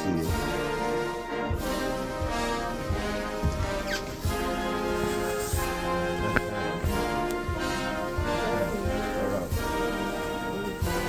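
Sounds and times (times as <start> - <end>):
orchestral music with brass: 0.0 - 11.0.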